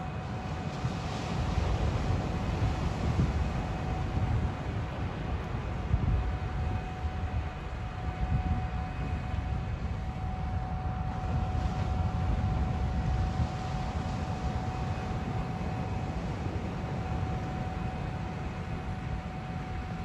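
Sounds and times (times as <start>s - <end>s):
constant mechanical whine: 0.0s - 20.0s.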